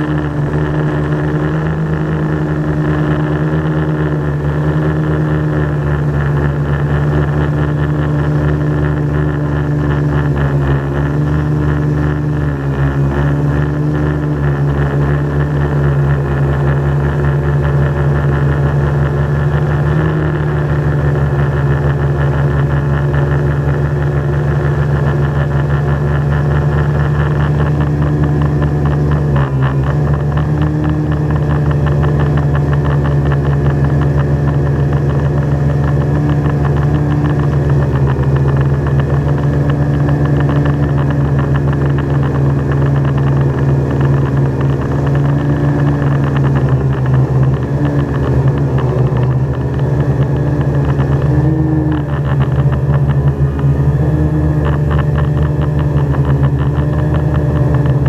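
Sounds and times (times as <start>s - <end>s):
drone motors humming: 0.0s - 58.0s.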